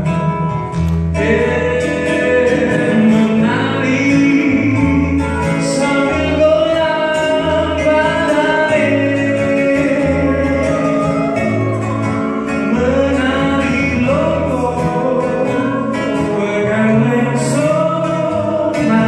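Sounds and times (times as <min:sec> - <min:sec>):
strummed acoustic guitar: 0:00.0 - 0:19.0
men singing into microphones: 0:01.1 - 0:19.0.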